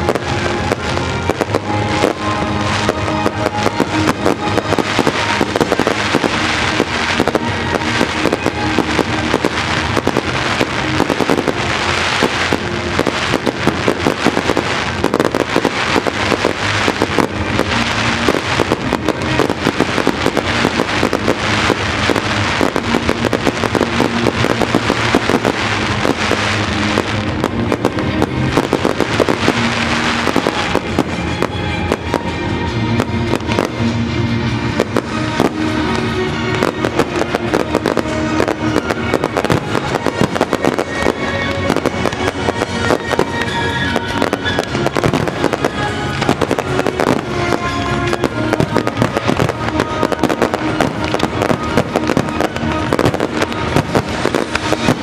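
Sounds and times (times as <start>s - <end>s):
fireworks banging: 0.0s - 55.0s
fireworks crackling: 0.0s - 55.0s
loud music: 0.0s - 55.0s.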